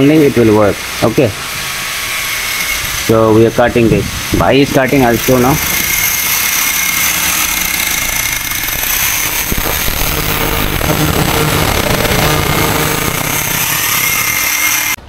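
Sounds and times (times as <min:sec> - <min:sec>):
angle grinder cutting metal: 0:00.0 - 0:15.0.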